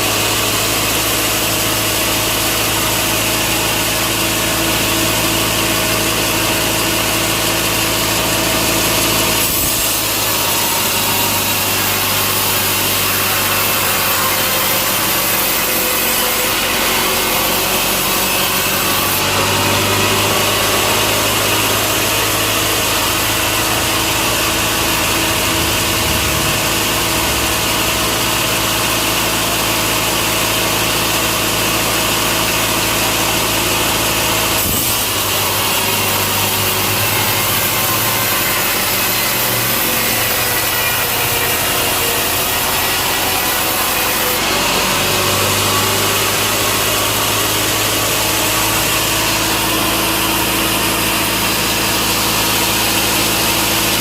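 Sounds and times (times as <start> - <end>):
saw cutting through log: 0.0 - 54.0
machine hum: 7.6 - 54.0.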